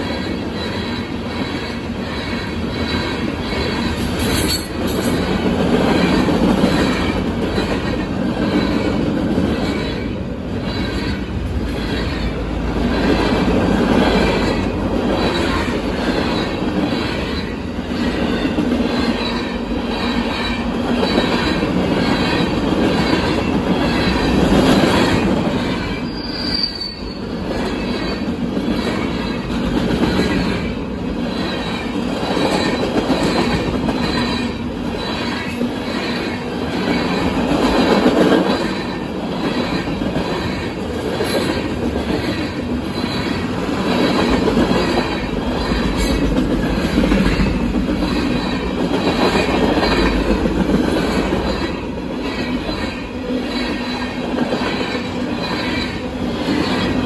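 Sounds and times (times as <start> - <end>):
freight train wheels clattering on rails: 0.0 - 57.0.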